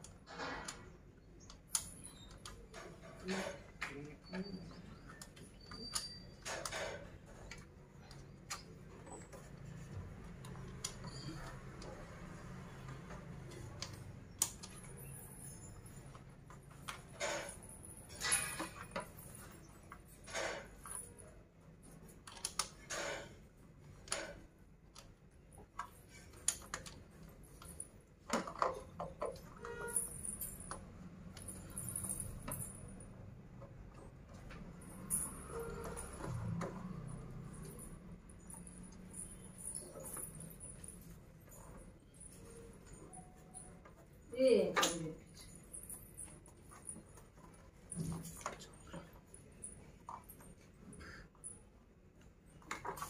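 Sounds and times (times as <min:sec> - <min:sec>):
small clicks taps and rustles: 0:00.0 - 0:53.0.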